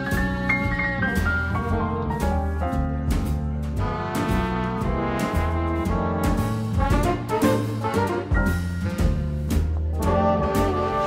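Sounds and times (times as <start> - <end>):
drum hits: 0.0 - 11.0
swing jazz with brass: 0.0 - 11.0.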